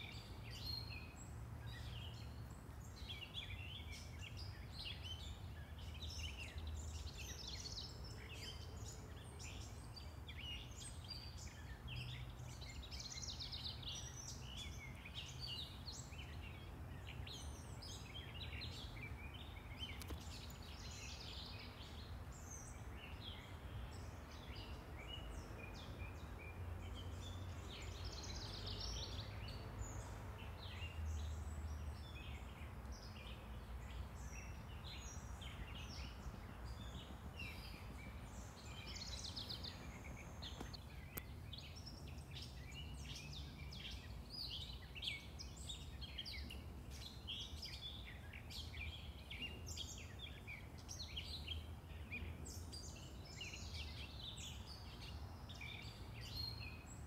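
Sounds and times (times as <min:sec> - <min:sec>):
distant road traffic rumble: 0:00.0 - 0:57.0
songbirds chirping and singing: 0:00.0 - 0:57.0.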